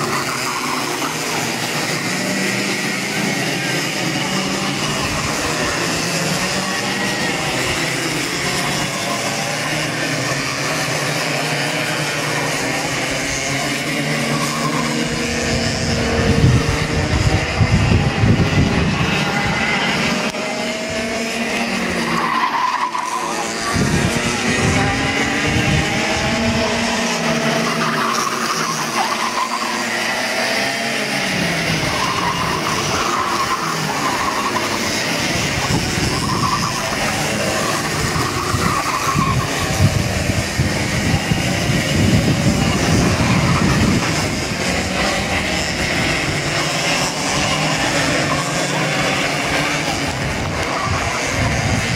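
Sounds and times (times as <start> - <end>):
kart engines buzzing: 0.0 - 51.9.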